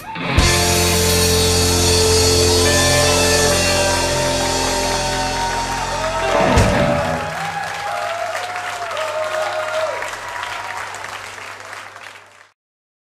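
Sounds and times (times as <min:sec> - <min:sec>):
audience clapping and cheering: 0:01.4 - 0:12.6.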